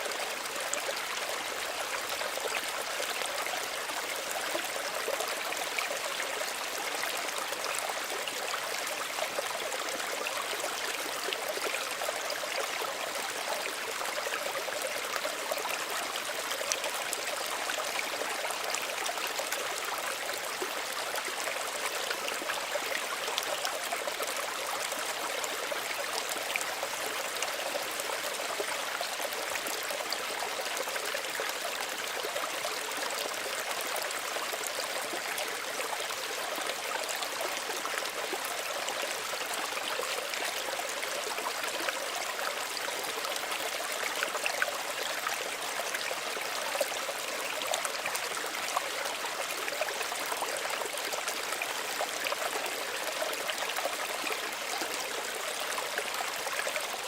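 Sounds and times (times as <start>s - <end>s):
stream babbling and trickling: 0.0s - 57.0s.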